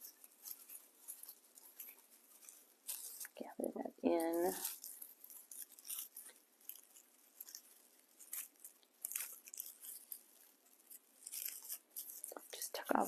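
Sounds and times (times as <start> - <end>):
dry fibres rustling in hands: 0.0 - 13.0.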